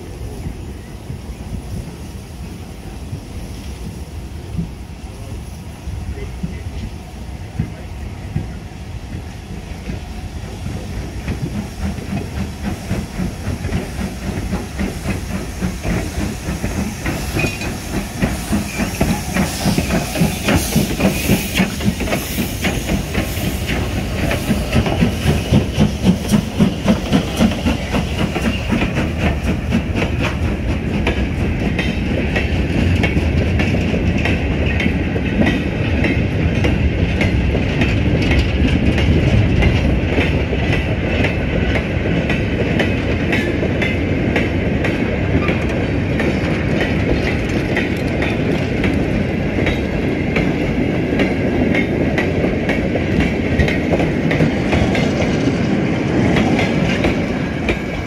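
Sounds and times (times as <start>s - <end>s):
steam hissing: 0.0s - 39.0s, 39.6s - 58.0s
steam locomotive exhaust beating: 0.0s - 58.0s.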